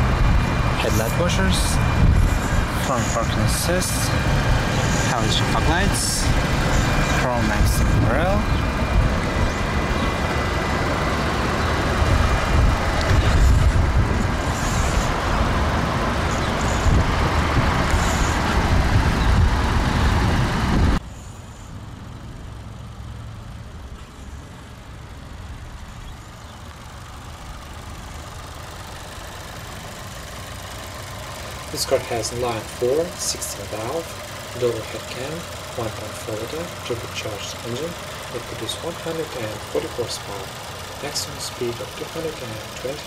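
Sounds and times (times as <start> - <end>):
car engine idling: 0.0 - 43.0
car rumbling: 0.0 - 43.0.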